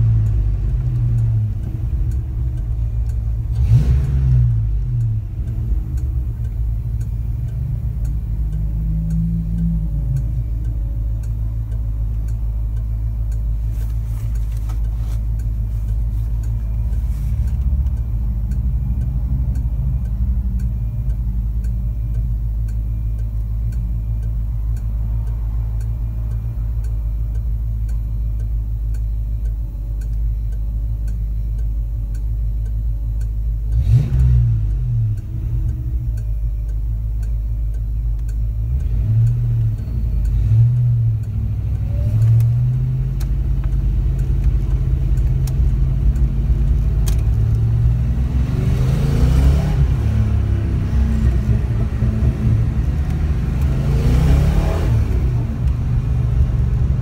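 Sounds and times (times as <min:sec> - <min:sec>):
car engine idling and revving: 0:00.0 - 0:57.0
turn signal ticking: 0:00.0 - 0:57.0.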